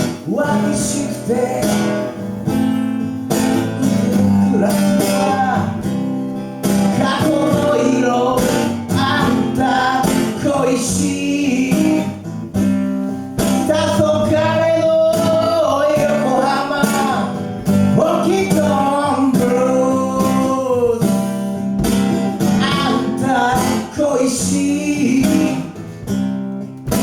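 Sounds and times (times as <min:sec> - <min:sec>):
man singing: 0:00.0 - 0:02.6, 0:03.2 - 0:12.4, 0:13.4 - 0:21.5, 0:22.4 - 0:26.0
acoustic guitar playing blues: 0:00.0 - 0:27.0.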